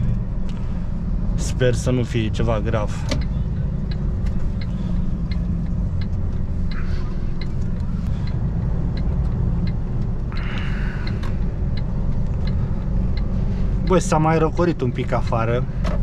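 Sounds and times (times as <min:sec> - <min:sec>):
truck diesel engine drone: 0:00.0 - 0:16.0
turn indicator ticking: 0:00.0 - 0:16.0.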